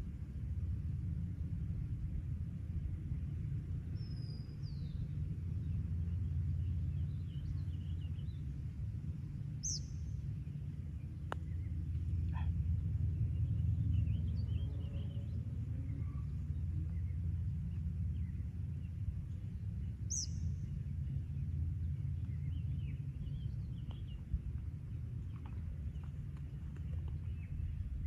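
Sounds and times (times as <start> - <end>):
wind rumble on microphone: 0.0 - 28.0
small birds chirping: 3.8 - 28.0.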